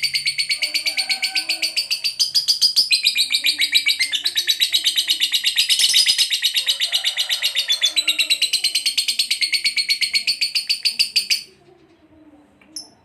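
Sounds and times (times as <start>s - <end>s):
bird chattering trill: 0.0s - 11.6s.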